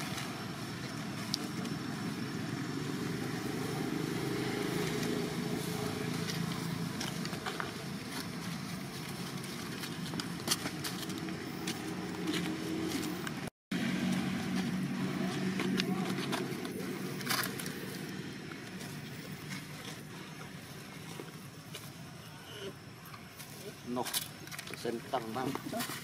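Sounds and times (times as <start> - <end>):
distant traffic rumble: 0.0 - 26.0.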